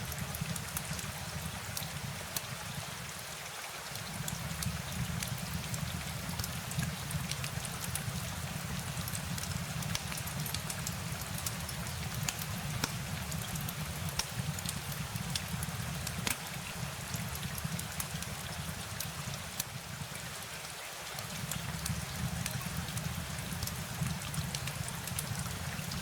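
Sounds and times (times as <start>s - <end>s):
steady rain hiss: 0.0s - 26.0s
raindrops ticking sharply: 4.0s - 20.4s, 21.2s - 26.0s.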